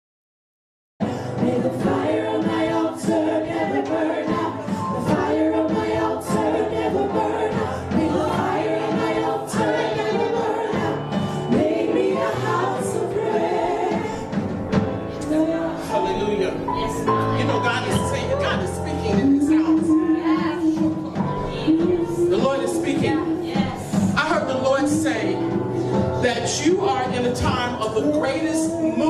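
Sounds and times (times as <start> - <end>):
choir singing gospel: 1.0 - 29.0
instrumental accompaniment: 1.0 - 29.0.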